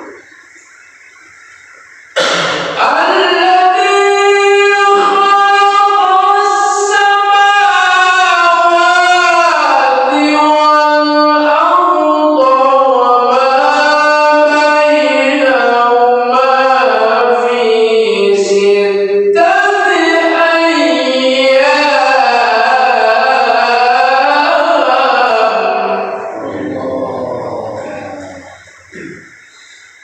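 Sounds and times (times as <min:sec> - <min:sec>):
person reciting melodically: 0:01.1 - 0:29.9.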